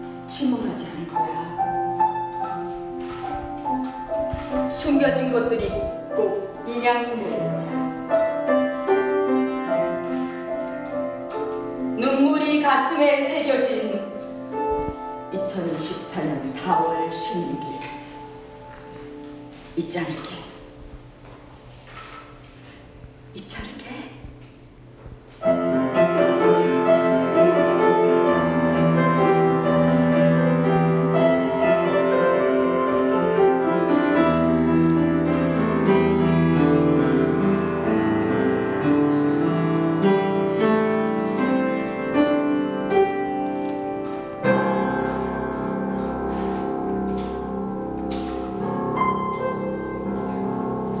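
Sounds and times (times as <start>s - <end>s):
slow piano music: 0.0s - 23.4s, 24.3s - 51.0s.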